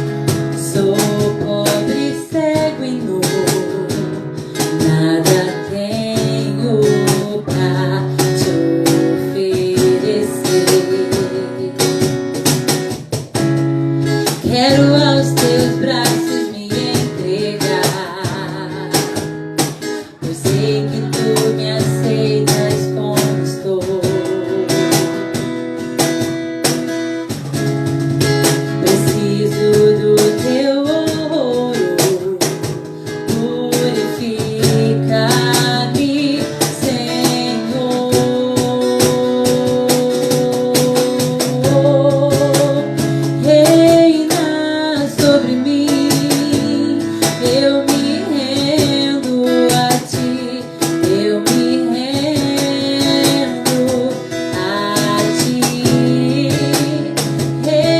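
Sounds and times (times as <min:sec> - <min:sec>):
person singing: 0:00.0 - 0:12.3, 0:14.4 - 0:26.0, 0:28.6 - 0:57.9
acoustic guitar strumming: 0:00.0 - 0:57.9.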